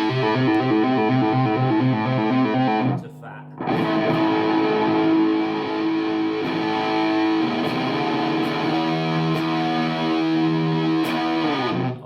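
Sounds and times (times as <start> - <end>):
fuzzed electric guitar chords: 0.0 - 12.0.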